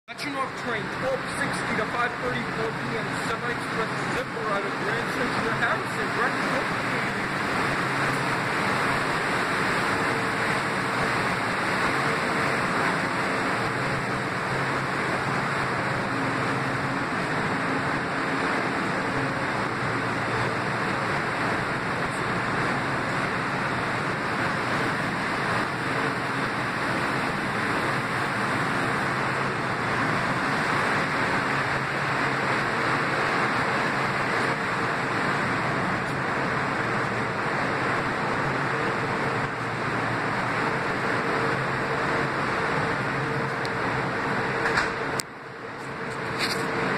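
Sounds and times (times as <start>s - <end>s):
train ventilation hiss: 0.1s - 46.9s.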